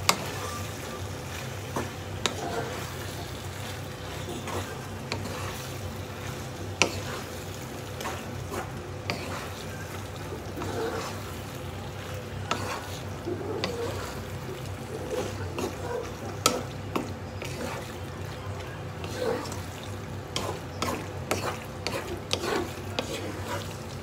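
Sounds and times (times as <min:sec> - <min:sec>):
spatula stirring food in pan: 0:00.0 - 0:24.0.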